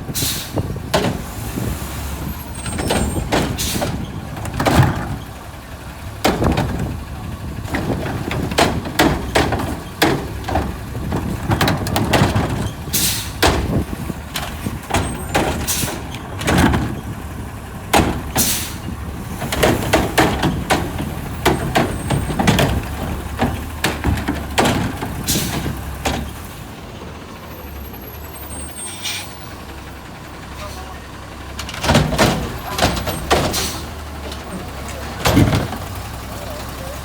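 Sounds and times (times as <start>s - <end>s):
garbage truck bangs and clanks: 0.0s - 37.0s
truck engine running: 0.0s - 37.0s.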